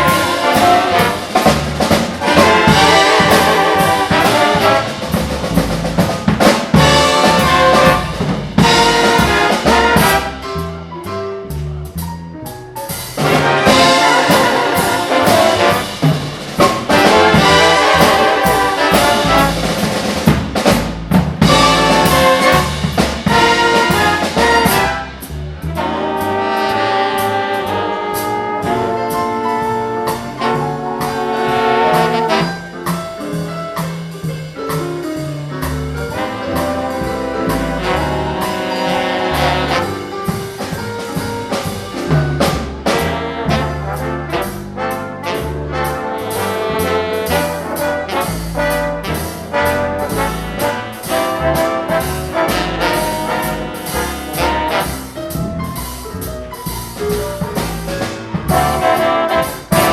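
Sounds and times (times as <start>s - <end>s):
trumpets and trombones: 0.0s - 10.8s, 13.2s - 20.8s, 21.4s - 33.0s, 36.0s - 55.4s, 57.6s - 59.9s
big band playing swing: 0.0s - 59.9s
drums: 0.0s - 59.9s
walking bass: 0.0s - 59.9s.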